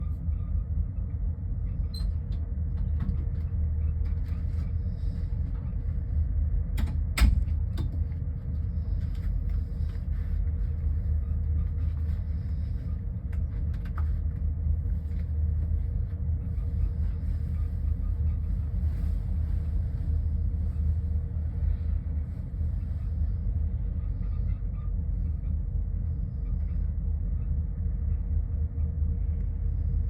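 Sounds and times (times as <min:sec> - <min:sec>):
ship engine rumble: 0:00.0 - 0:30.0.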